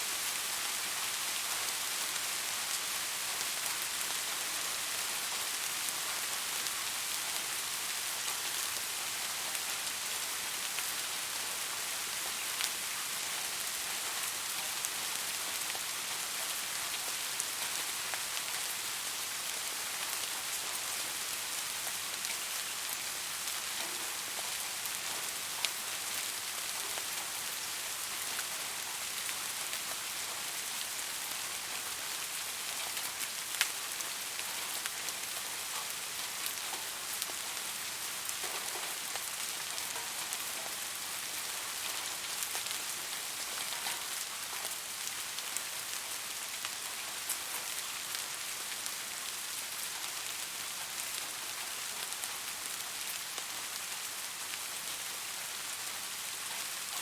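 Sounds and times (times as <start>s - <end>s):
rain falling: 0.0s - 57.0s
rain drops ticking: 1.1s - 57.0s.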